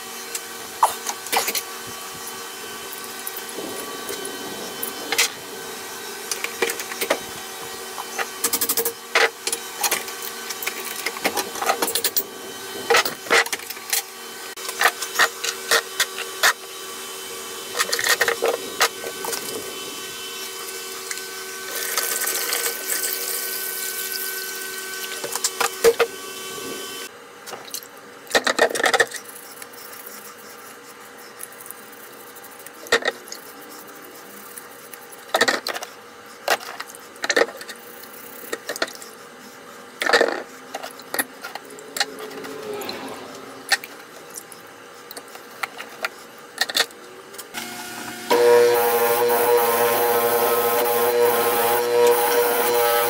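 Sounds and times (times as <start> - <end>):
steady hum: 0.0 - 27.1, 29.4 - 53.0.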